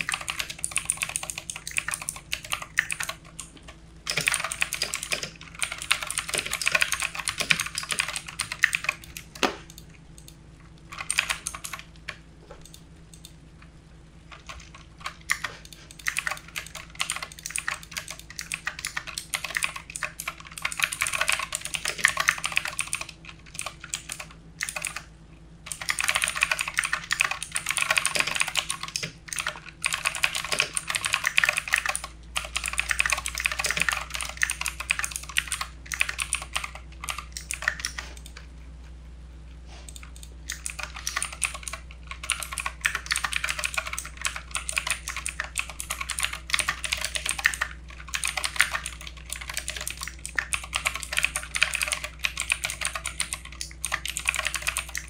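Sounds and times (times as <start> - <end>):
typing on computer keyboard: 0.0 - 13.4, 14.3 - 25.1, 25.7 - 38.4, 39.9 - 55.0.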